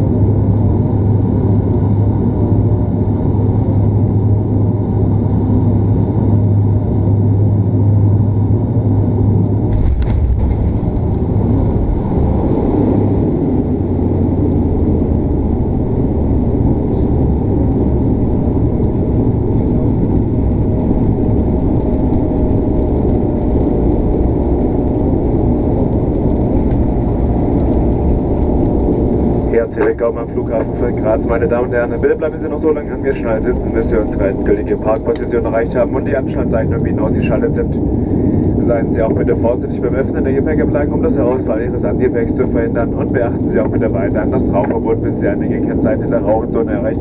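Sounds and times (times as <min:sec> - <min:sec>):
propeller drone in cabin: 0:00.0 - 0:47.0.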